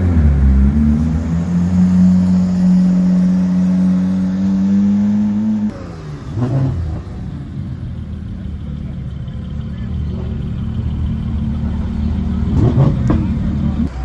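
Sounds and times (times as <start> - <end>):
car engine accelerating: 0.0 - 14.0
low engine rumble: 0.0 - 14.0.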